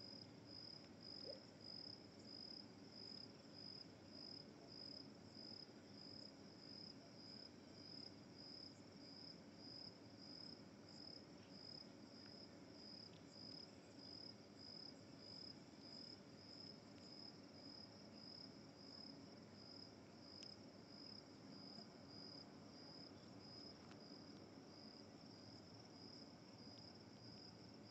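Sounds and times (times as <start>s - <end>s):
cricket chirping: 0.0s - 27.9s
low background hiss: 0.0s - 27.9s.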